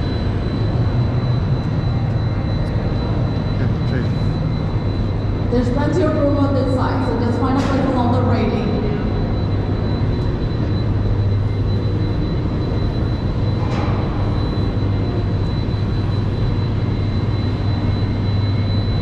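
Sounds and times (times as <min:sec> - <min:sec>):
generator low drone: 0:00.0 - 0:19.0.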